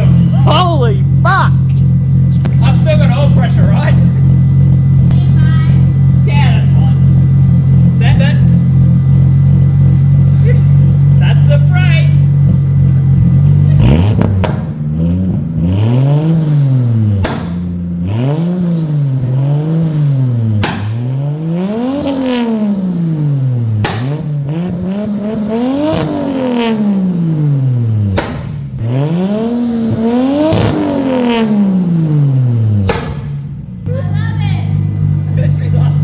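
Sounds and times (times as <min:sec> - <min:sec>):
loud exhaust bang: 0:00.0 - 0:29.0, 0:29.7 - 0:36.0
car engine revving: 0:00.0 - 0:36.0.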